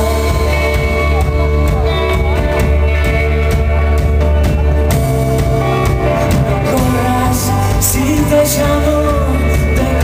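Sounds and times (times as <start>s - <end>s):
bass guitar: 0.0s - 10.0s
drum kit steady beat: 0.0s - 10.0s
electric guitar: 0.0s - 10.0s.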